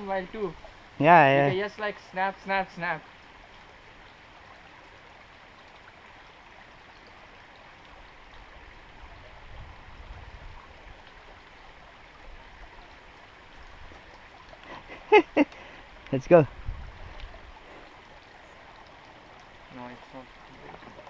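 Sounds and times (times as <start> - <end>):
stream water rushing over rocks: 0.0 - 21.0.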